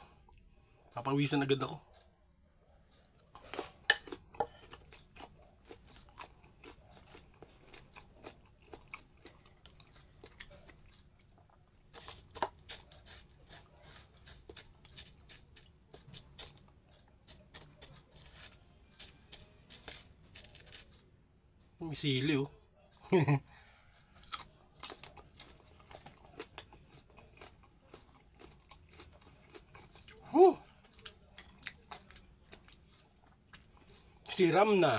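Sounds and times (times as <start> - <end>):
crunchy fruit chewing: 3.0 - 21.1, 24.0 - 34.9.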